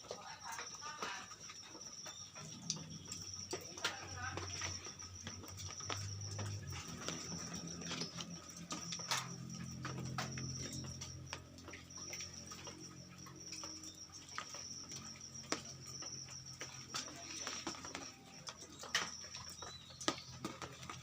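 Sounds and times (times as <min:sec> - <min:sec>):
birds ticking and tapping: 0:00.0 - 0:21.0.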